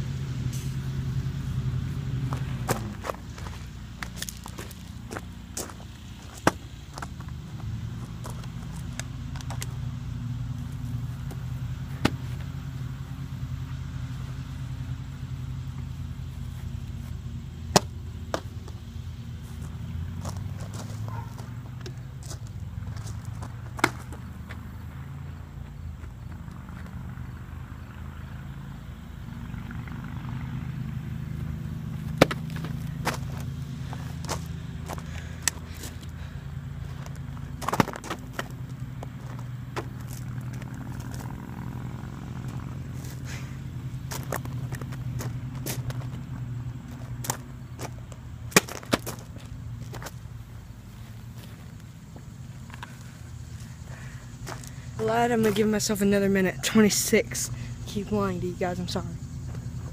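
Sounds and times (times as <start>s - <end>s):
engine humming: 0.0s - 59.9s.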